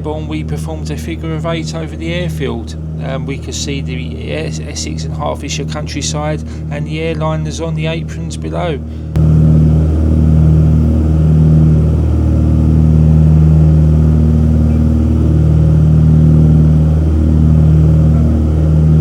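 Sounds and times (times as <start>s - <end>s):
aircraft piston engines droning: 0.0s - 19.0s.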